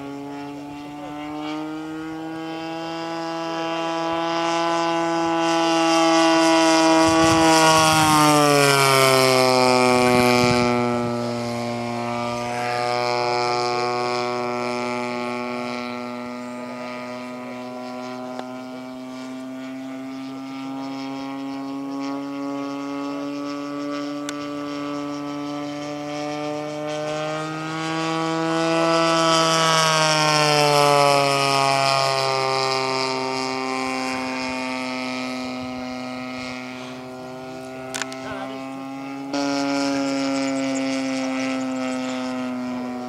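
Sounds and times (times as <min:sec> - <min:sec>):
model plane engine flying: 0:00.0 - 0:43.0.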